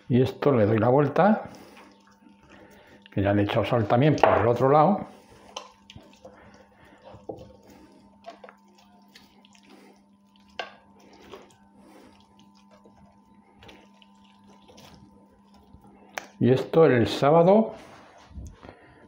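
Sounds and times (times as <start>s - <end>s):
faint steady hum: 0.0s - 19.0s
wet squelches of handled meat: 0.7s - 16.5s.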